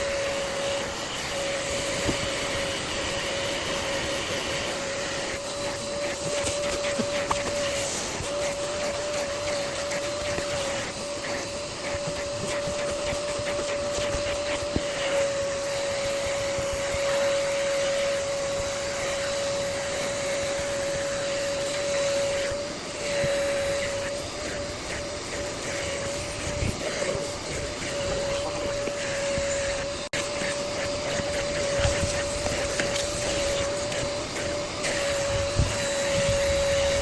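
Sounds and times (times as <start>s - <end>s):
suction hiss: 0.0s - 37.0s
vacuum motor whining: 0.0s - 37.0s.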